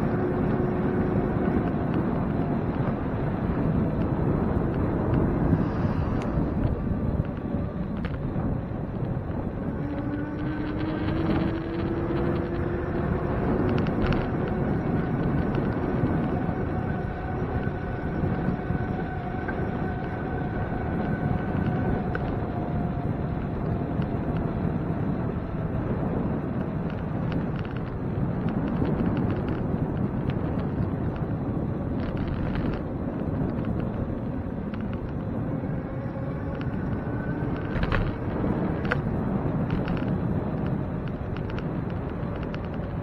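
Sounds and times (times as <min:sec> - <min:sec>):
bicycle road noise: 0:00.0 - 0:43.0
wind rushing over microphone: 0:00.0 - 0:43.0.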